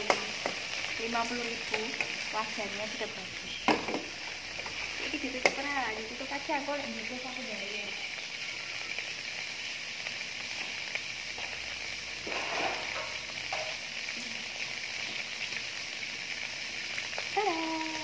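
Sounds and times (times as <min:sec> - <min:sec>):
chillies sizzling in a wok: 0:00.0 - 0:18.0.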